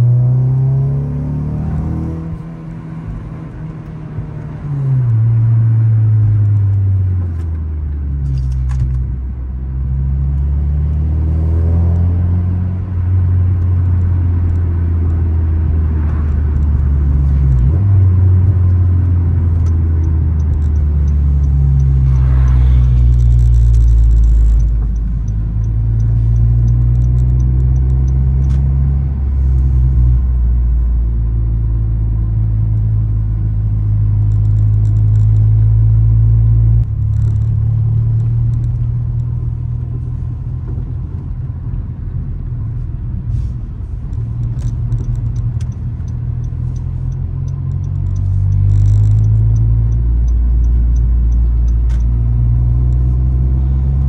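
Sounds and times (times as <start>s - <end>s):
car engine drone from cabin: 0.0s - 54.0s.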